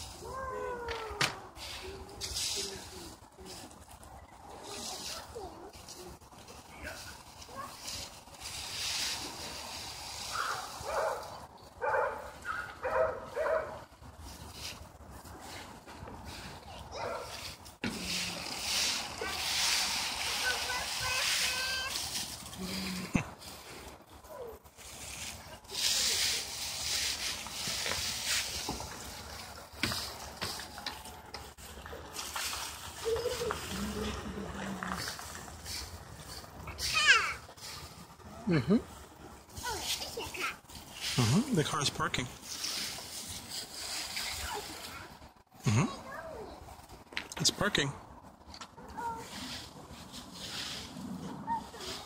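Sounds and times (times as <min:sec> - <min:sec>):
rake rustling dry leaves: 0:00.0 - 0:38.3, 0:38.9 - 0:47.1, 0:48.7 - 0:52.0.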